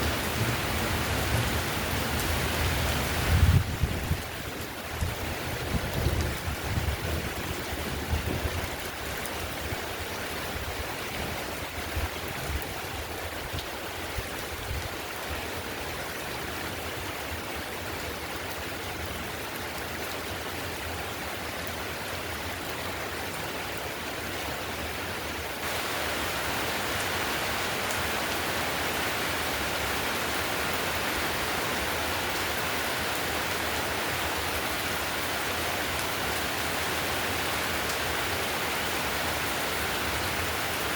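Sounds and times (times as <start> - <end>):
heavy rain on a tiled roof: 0.0 - 40.9.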